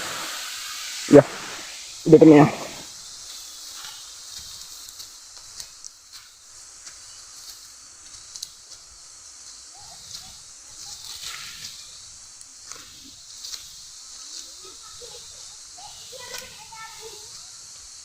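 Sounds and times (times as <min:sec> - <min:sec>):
waterfall hiss: 0:00.0 - 0:18.0.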